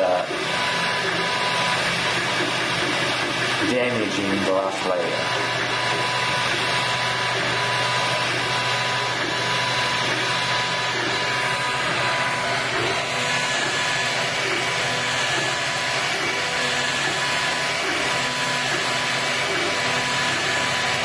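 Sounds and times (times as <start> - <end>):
stepper motors whining: 0.0 - 21.0.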